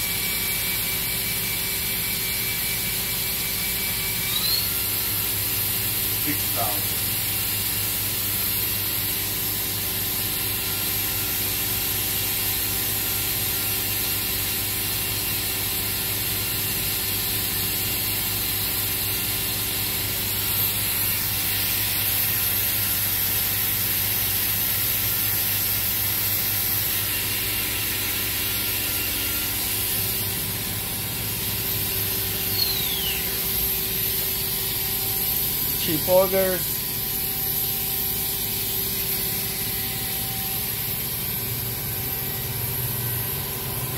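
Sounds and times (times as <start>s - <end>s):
machine spindle humming: 0.0s - 43.9s.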